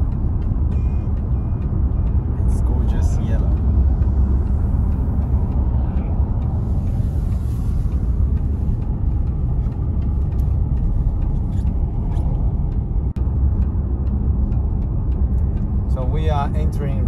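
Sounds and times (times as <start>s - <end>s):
car road noise from inside: 0.0s - 17.0s.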